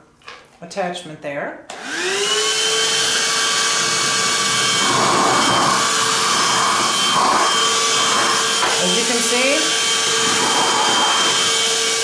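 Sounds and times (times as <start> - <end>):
vacuum motor whine: 1.7 - 12.0.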